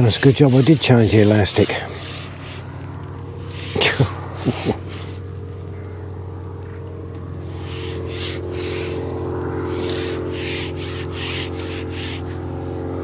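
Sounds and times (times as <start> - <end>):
low drone of held tones: 0.4 - 13.0.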